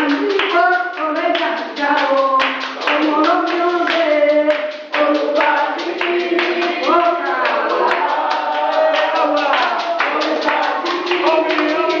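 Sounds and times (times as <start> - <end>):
person singing: 0.0 - 12.0
rhythmic hand clapping: 0.0 - 12.0.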